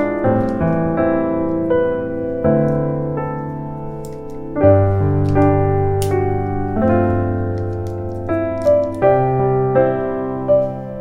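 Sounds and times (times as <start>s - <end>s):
light piano melody: 0.0s - 11.0s.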